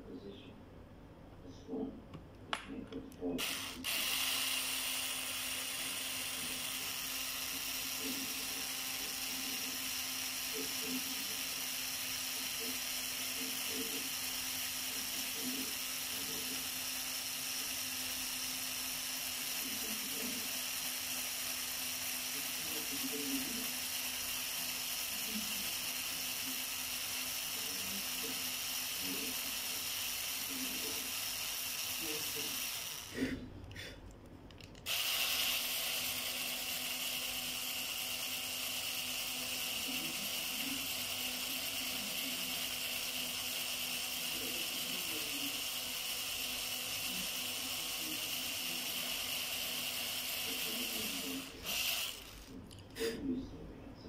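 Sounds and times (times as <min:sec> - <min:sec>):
cordless drill boring into metal: 0:03.4 - 0:33.3, 0:34.9 - 0:52.6.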